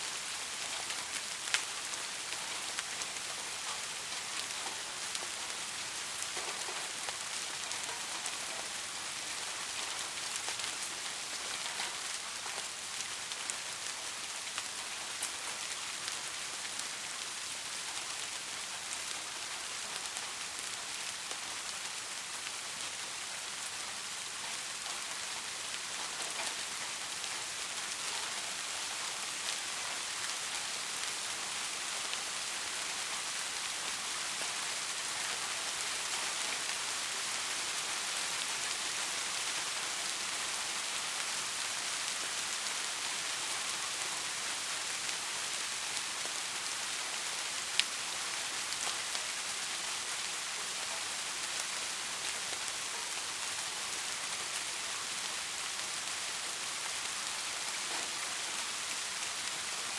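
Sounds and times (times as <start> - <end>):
rain falling on surfaces: 0.0 - 59.9.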